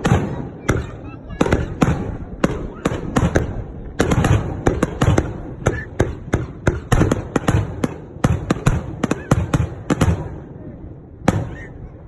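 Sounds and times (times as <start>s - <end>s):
fireworks bangs and cracks: 0.0s - 11.8s.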